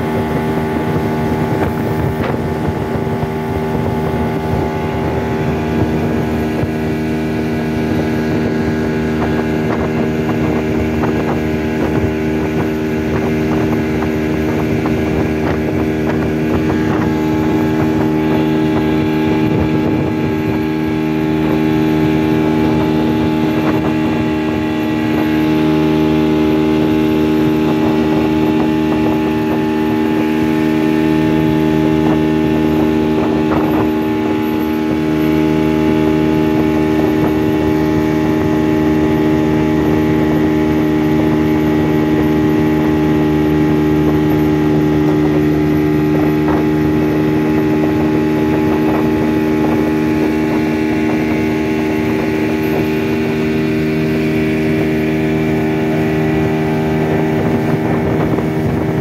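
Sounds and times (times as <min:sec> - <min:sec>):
motorboat engine droning: 0:00.0 - 0:59.0.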